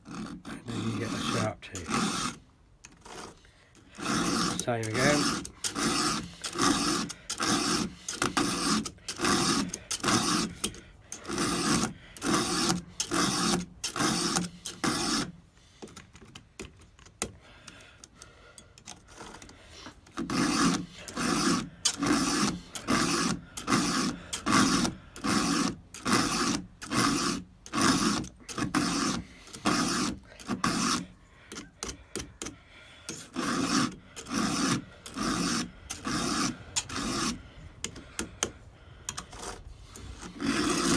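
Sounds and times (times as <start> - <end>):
file rasping on chainsaw chain: 0.0 - 16.1, 17.2 - 40.9.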